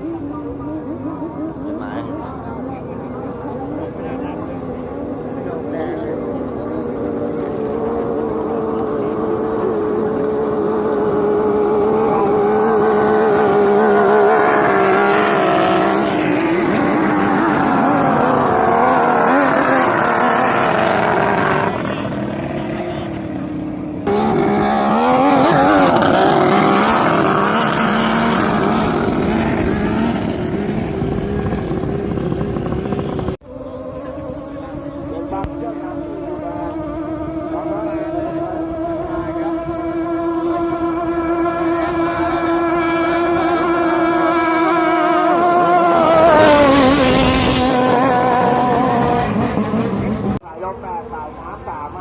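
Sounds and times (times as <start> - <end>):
racing boat engines: 0.0 - 52.0.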